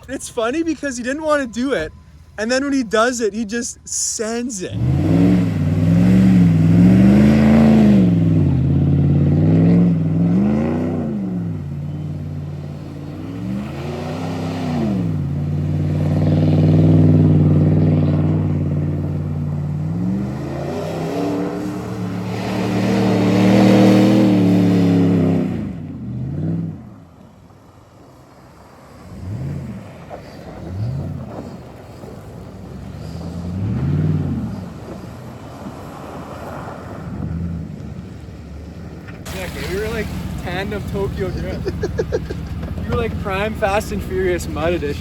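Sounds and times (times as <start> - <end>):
truck engine revving: 0.0 - 27.0, 28.6 - 45.0.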